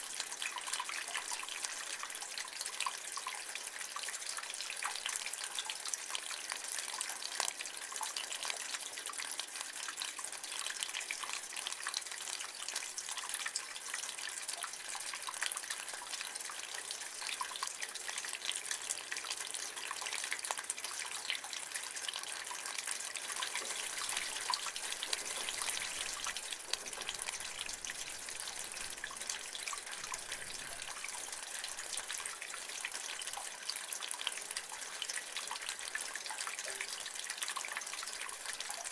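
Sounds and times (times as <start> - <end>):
small water drips: 0.0 - 38.9
water trickling from gutter: 0.0 - 38.9.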